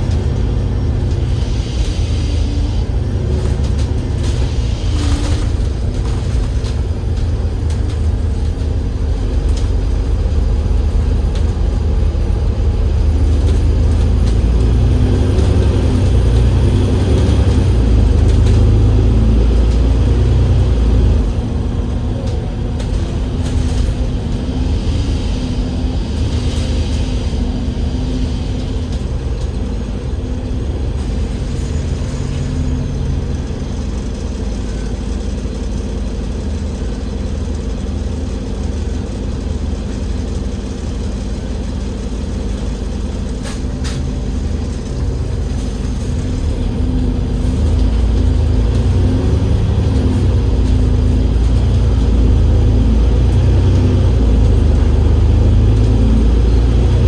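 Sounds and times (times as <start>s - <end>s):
bus engine rumble from inside: 0.0s - 57.0s.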